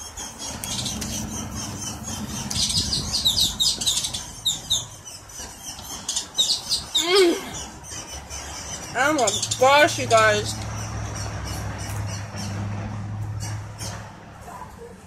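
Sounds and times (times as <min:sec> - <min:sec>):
small birds chirping: 0:00.0 - 0:14.1.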